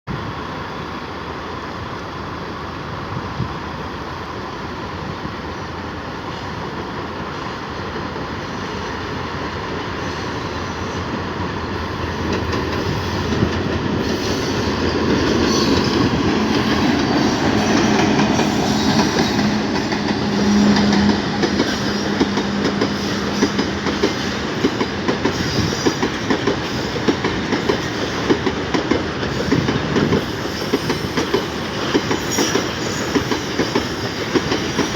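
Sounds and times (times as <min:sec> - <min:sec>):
freight train rumbling: 0:00.1 - 0:34.9
train wheels clickety-clack: 0:06.3 - 0:34.9.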